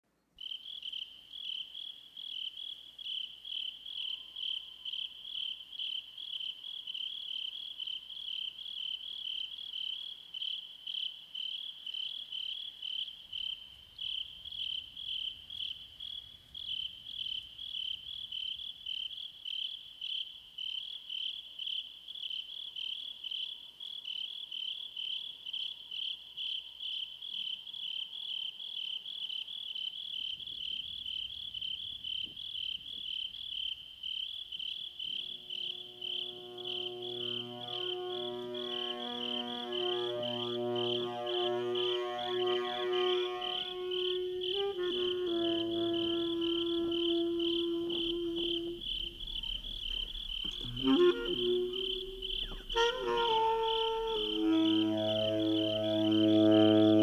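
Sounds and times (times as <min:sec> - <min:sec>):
insects chirping: 0:00.4 - 0:57.0.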